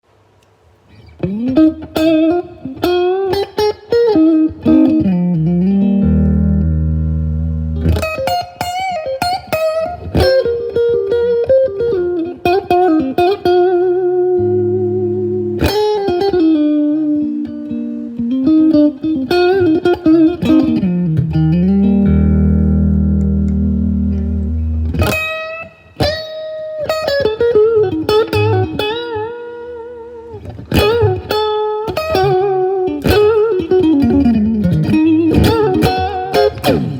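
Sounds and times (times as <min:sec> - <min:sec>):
electric guitar melodic lead: 0:00.9 - 0:36.9.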